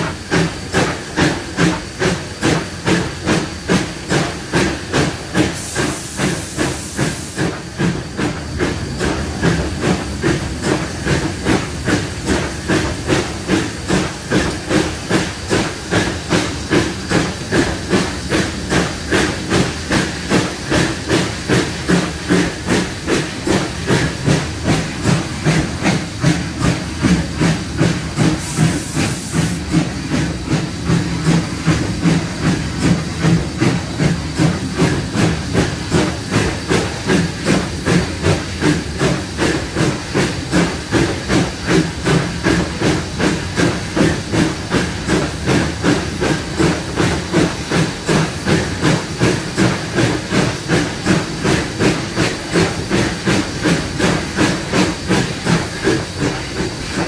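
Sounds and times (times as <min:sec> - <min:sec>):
steam hissing: 0:00.0 - 0:57.0
steam locomotive exhaust chuffs: 0:00.0 - 0:57.0.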